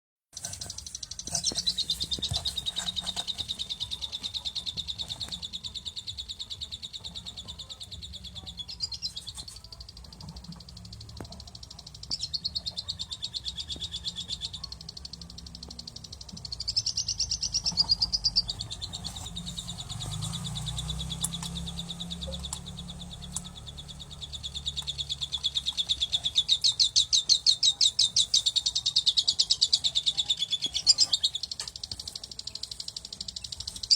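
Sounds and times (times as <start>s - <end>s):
baby bird chirping: 0.4s - 33.9s.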